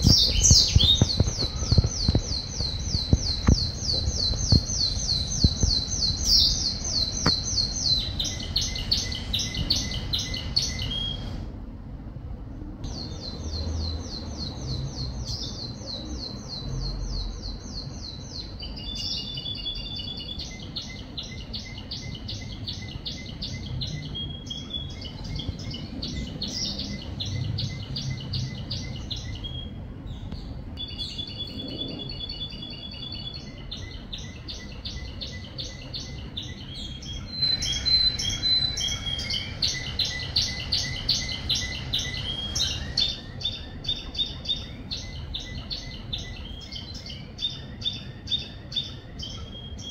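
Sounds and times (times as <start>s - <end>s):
canary singing trills: 0.0s - 11.4s, 12.9s - 49.9s.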